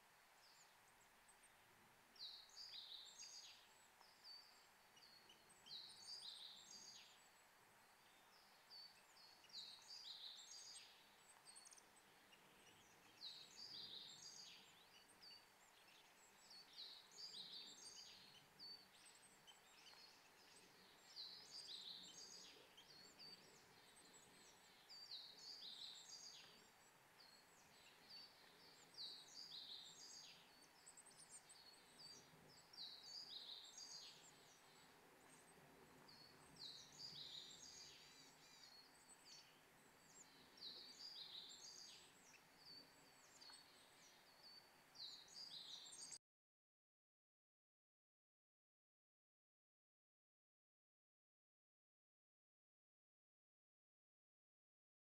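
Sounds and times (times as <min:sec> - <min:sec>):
small songbird singing: 0:00.0 - 0:46.2.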